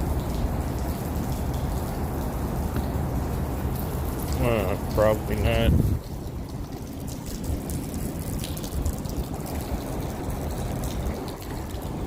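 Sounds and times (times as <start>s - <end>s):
faint drips: 0.0s - 12.0s
rain falling: 0.0s - 12.0s
water trickling: 0.0s - 12.0s.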